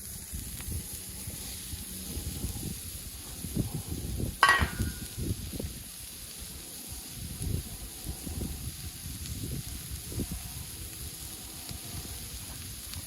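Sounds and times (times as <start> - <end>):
ham sizzling in a pan: 0.0 - 13.0.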